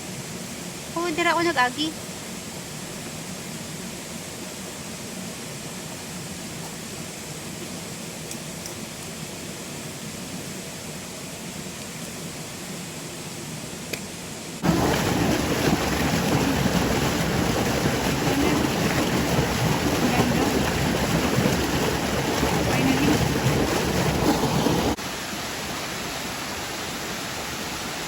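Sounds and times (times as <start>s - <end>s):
mountain stream rushing water: 0.0s - 28.0s.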